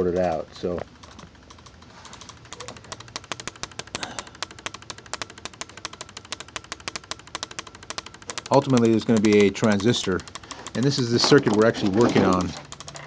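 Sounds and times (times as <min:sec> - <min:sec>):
relay clicking rapidly: 0:00.0 - 0:13.0.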